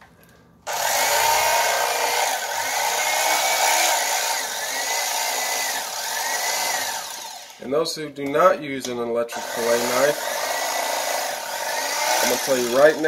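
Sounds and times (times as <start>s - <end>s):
electric knife cutting fish: 0.7s - 7.6s, 9.4s - 13.0s.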